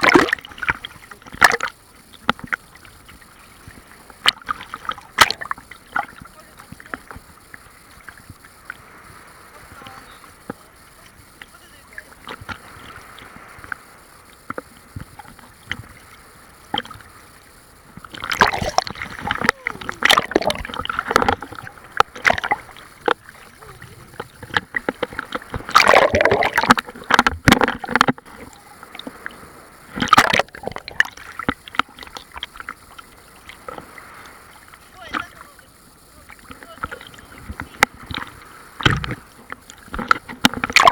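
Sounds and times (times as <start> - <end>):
sea waves surging and splashing: 0.0 - 40.9
water sloshing and clicking: 0.0 - 40.9.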